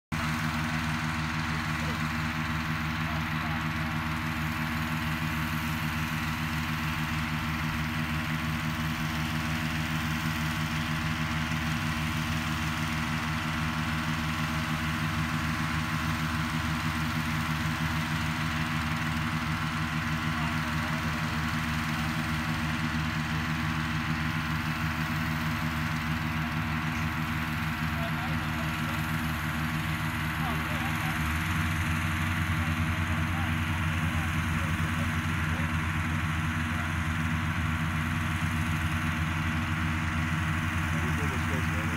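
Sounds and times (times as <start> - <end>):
petrol-engine fan running: 0.1 - 41.9.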